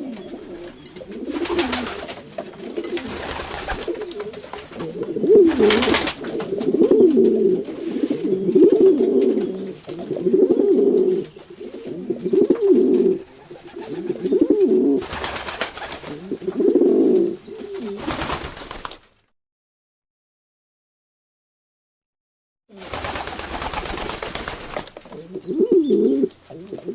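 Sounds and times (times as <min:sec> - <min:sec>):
pigeons cooing: 0:00.0 - 0:18.3, 0:22.8 - 0:26.9.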